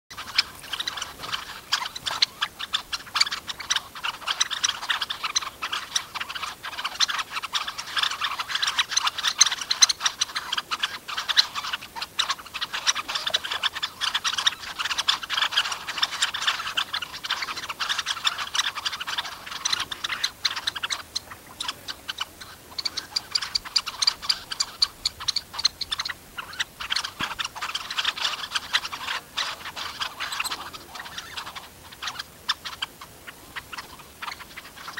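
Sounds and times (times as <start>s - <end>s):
birds making clicking calls: 0.1s - 34.9s.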